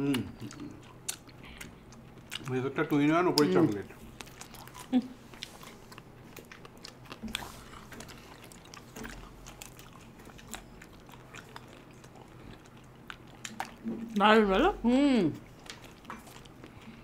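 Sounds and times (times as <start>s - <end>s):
biting and chewing: 0.0s - 14.2s, 15.4s - 17.0s.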